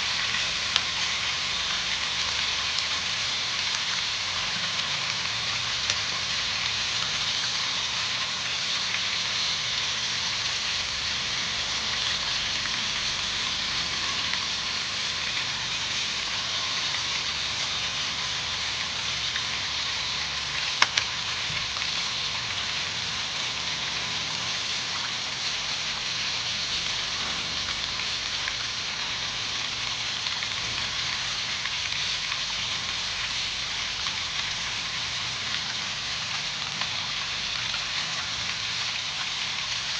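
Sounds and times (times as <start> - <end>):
fish sizzling in a pan: 0.0 - 39.9.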